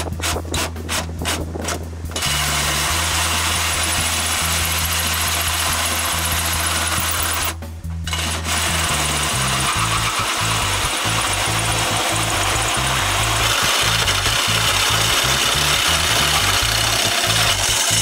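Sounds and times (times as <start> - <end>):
hole saw cutting sheet metal: 0.0 - 18.0.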